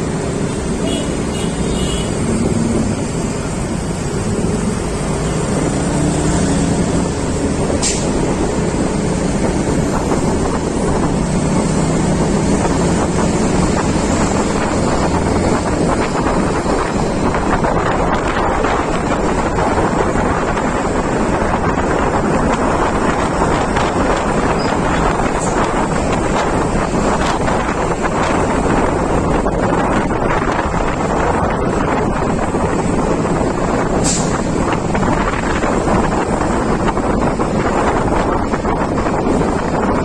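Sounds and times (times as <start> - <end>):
low engine hum: 0.0 - 40.0
wind rushing over microphone: 0.0 - 40.0.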